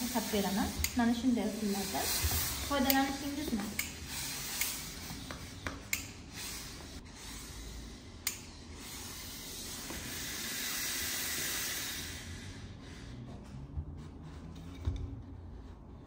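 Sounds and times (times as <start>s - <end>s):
steam iron hissing: 0.0s - 13.1s.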